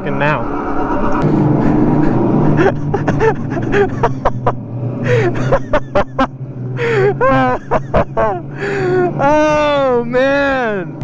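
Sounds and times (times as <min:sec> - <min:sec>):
go-kart motor running: 0:00.7 - 0:11.0.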